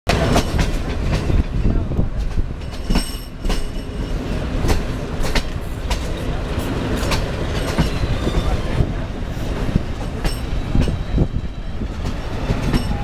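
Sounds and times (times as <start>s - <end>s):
wheels clacking over rail joints: 0.1s - 8.8s, 9.4s - 13.0s
train rumbling on track: 0.1s - 13.0s.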